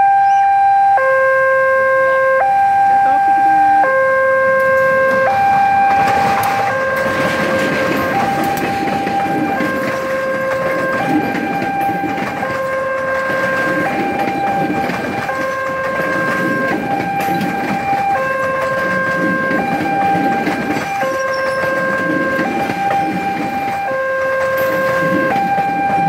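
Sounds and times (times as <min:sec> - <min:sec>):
two-tone electronic warning signal: 0:00.0 - 0:26.0
train rumbling over rails: 0:02.5 - 0:26.0.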